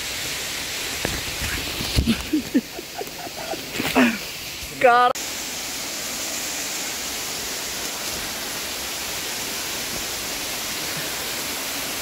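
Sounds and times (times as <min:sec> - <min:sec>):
waterfall pouring over rocks: 0:00.0 - 0:12.0.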